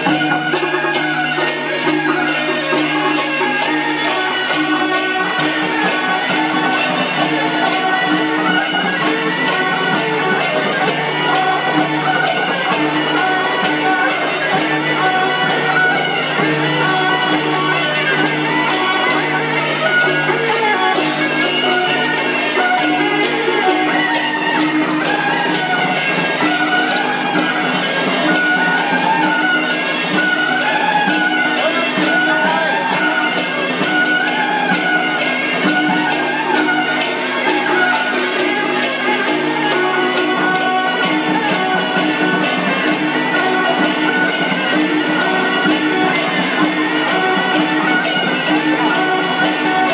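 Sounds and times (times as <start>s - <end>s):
fast steady percussion beat: 0.0s - 49.9s
held melodic tones: 0.0s - 49.9s.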